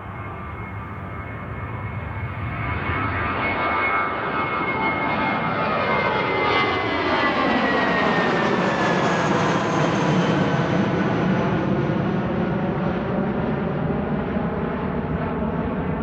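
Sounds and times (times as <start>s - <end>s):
jet engines roaring with whine: 0.0s - 16.0s.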